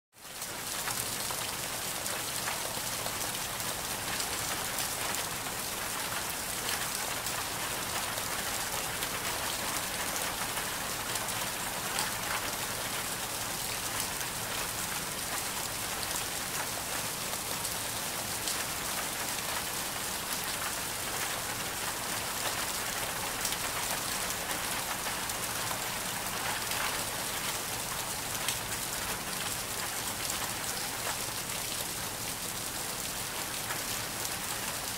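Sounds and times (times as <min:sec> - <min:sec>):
steady dense rainfall: 0:00.1 - 0:34.9.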